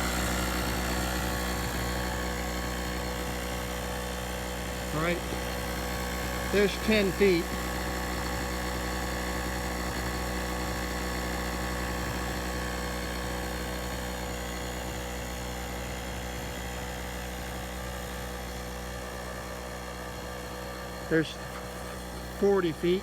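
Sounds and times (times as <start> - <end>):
portable generator running: 0.0 - 23.0.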